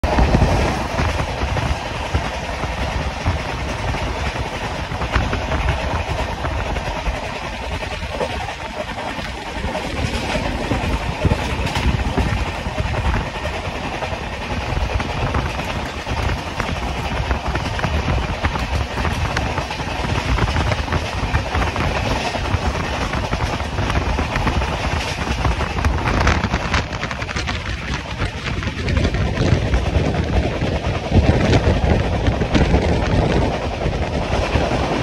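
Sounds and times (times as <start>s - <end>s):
rail joint clicks: 0.0s - 35.0s
train wheels rumbling on rail: 0.0s - 35.0s.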